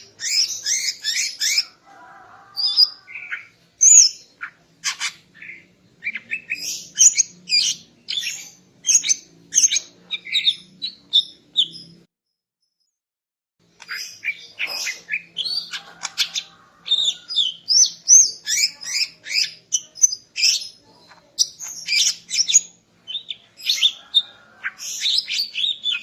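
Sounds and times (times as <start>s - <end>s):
bird chirping and whistling: 0.2s - 1.7s, 2.6s - 11.9s, 13.9s - 20.7s, 21.4s - 26.0s.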